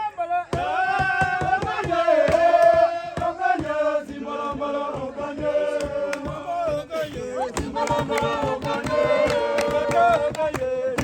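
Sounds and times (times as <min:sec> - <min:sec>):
group chanting and singing: 0:00.0 - 0:11.0.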